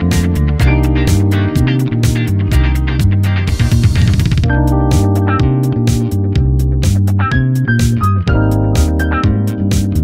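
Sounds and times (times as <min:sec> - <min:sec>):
keyboard and bass music with beat: 0:00.0 - 0:10.0.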